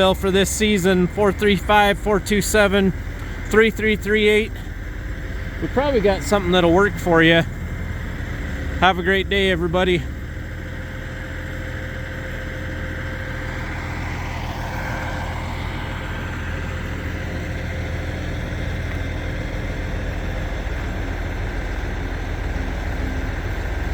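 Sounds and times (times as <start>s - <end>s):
engine humming: 0.0s - 23.9s
faint steady tones: 0.0s - 23.9s.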